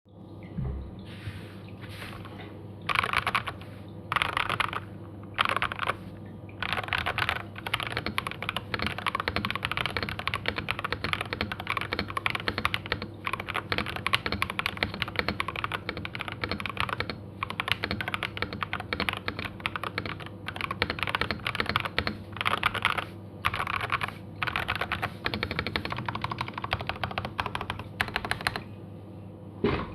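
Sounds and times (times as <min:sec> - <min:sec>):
mechanical keyboard typing: 0:02.9 - 0:06.0, 0:06.6 - 0:28.7.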